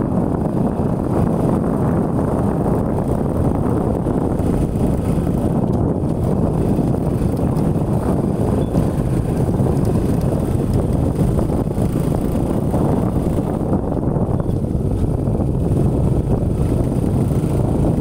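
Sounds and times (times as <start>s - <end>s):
motorcycle engine rumble: 0.0s - 18.0s
wind buffeting microphone: 0.0s - 18.0s.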